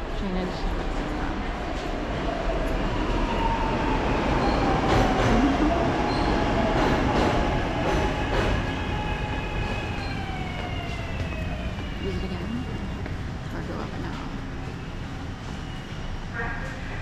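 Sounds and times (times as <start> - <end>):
subway train rumble: 0.0 - 17.0.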